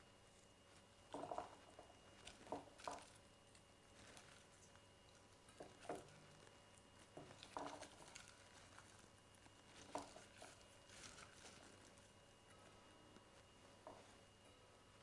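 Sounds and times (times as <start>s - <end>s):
rustling of dry garlic skins: 0.7s - 14.2s.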